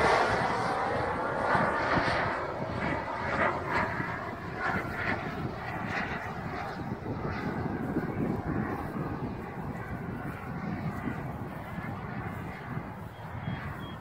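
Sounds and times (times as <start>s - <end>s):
model jet engine: 0.0s - 14.0s.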